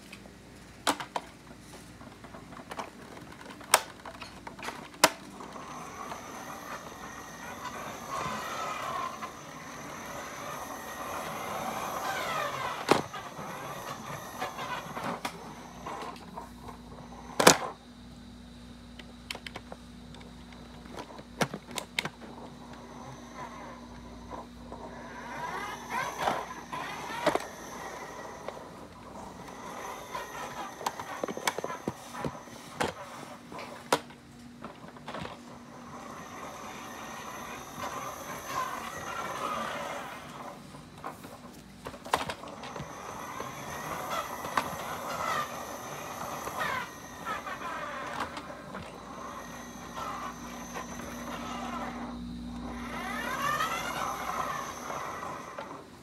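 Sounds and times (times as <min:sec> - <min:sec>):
toy truck rolling on tiles: 0:00.8 - 0:17.8, 0:19.3 - 0:56.0
toy motor whine: 0:02.3 - 0:17.8, 0:20.6 - 0:34.0, 0:34.6 - 0:56.0.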